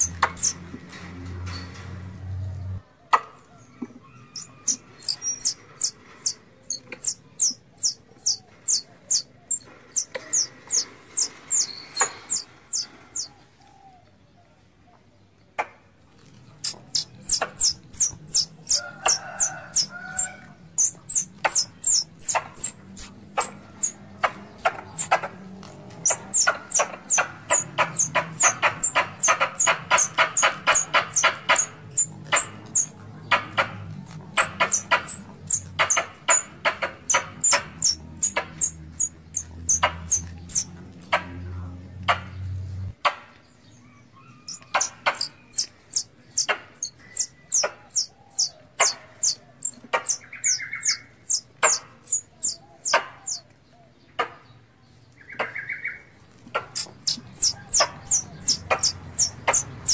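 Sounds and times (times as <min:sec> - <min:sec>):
squirrels chattering: 0:00.0 - 0:00.6, 0:04.1 - 0:13.3, 0:16.4 - 0:42.4, 0:44.3 - 0:53.4, 0:55.2 - 0:59.9.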